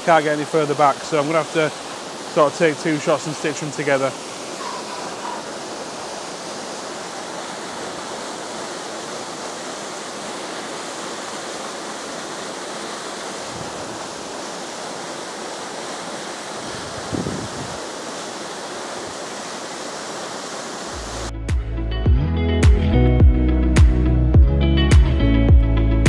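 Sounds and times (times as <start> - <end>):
waterfall rushing: 0.0 - 21.3.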